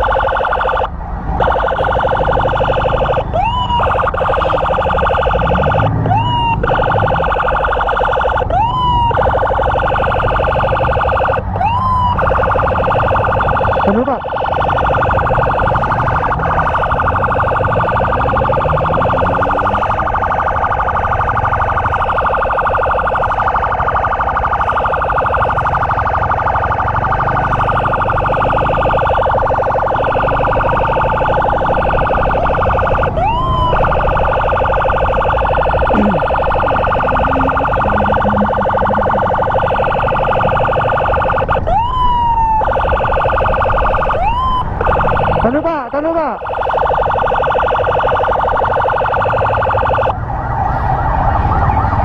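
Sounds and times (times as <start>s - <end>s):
fast-pulsing siren tone: 0.0s - 52.0s
rising siren whoops: 0.0s - 52.0s.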